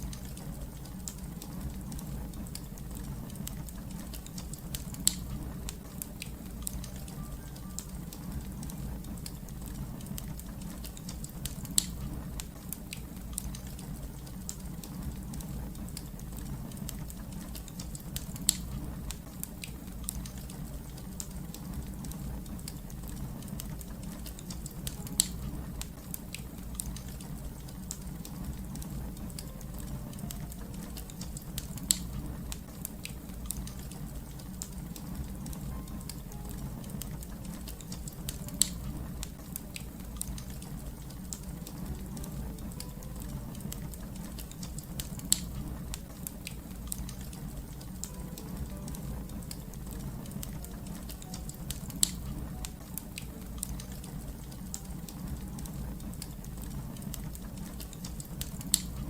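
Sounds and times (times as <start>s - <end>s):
fire pops: 0.0s - 59.0s
wood fire crackling: 0.0s - 59.0s.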